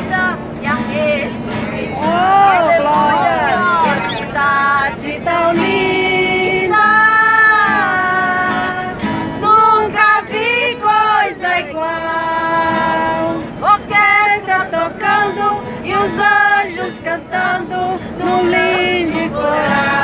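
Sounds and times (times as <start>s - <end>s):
women singing a hymn: 0.0s - 20.0s.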